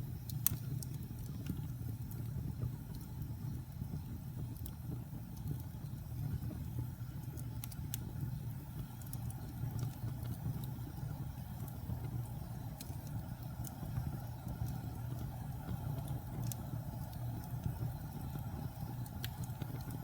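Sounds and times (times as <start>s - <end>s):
fire crackling and popping: 0.0s - 20.0s
fire roaring in a fireplace: 0.0s - 20.0s.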